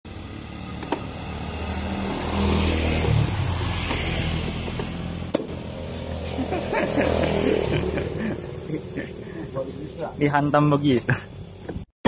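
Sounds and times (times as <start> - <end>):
small motorcycle engines running: 0.1 - 11.9.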